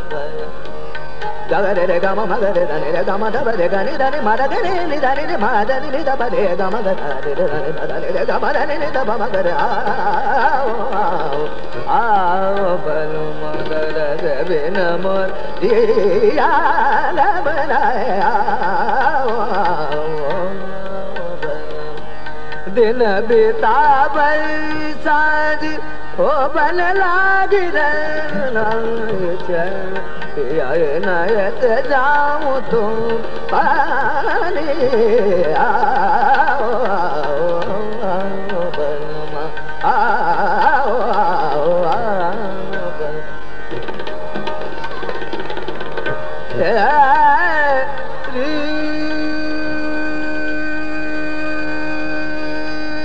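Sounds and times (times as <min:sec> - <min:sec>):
man singing classical vocals: 0:00.0 - 0:44.8, 0:45.4 - 0:53.0
tabla: 0:00.0 - 0:53.0.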